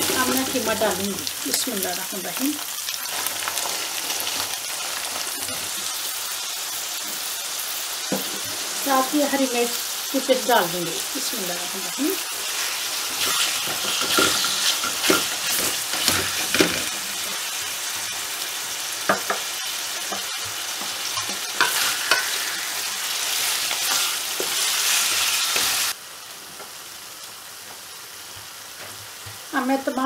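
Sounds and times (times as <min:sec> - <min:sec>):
meat sizzling in oil: 0:00.0 - 0:30.0.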